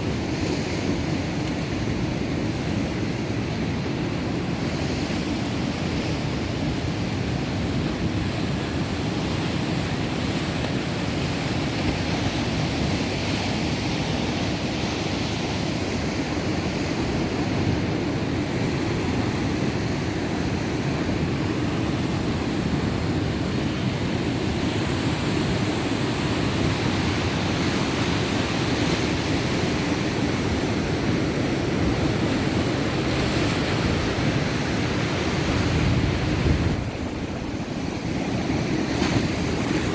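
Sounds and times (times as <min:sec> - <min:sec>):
waves breaking: 0:00.0 - 0:39.9
wind blowing across microphone: 0:00.0 - 0:39.9.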